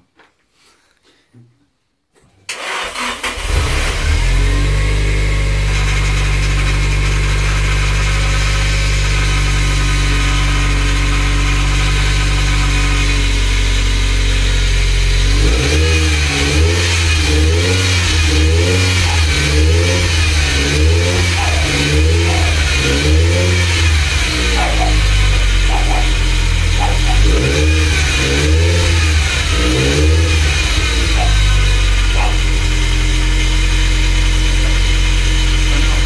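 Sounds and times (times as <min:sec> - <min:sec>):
car engine revving: 0:02.5 - 0:36.0.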